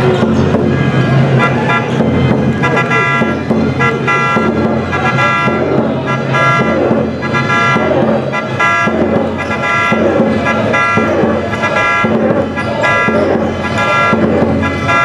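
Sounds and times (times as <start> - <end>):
crowd chanting: 0.0 - 15.0
brass instruments playing: 1.2 - 15.0.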